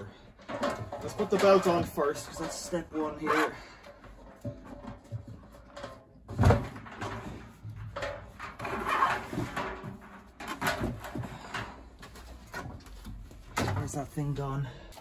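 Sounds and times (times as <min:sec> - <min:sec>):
knocks and scrapes of dryer parts: 0:00.0 - 0:14.5.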